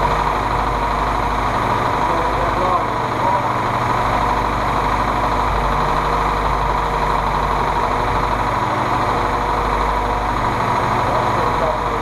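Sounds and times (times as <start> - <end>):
jeep engine idling: 0.0 - 12.0.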